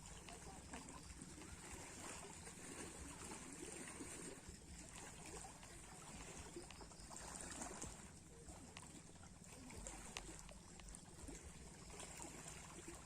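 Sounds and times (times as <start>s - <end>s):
faint sea waves: 0.0s - 13.0s.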